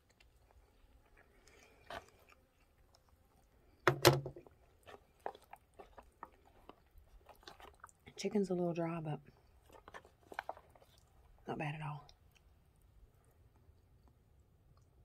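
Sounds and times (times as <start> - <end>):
quiet chewing: 0.0 - 15.0.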